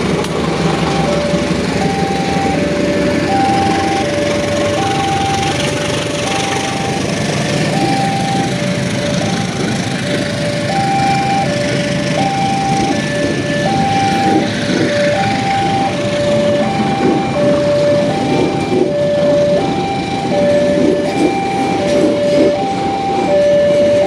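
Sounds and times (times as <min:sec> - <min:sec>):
train rumble: 0:00.0 - 0:24.0
level crossing two-tone alarm: 0:00.6 - 0:24.0.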